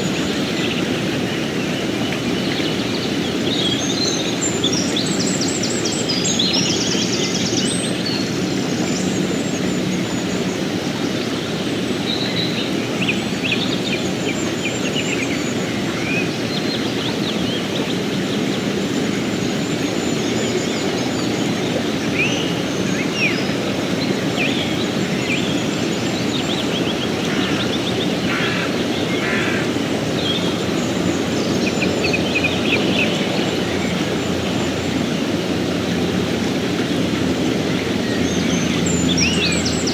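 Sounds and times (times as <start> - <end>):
river rushing over rocks: 7.3 - 39.9.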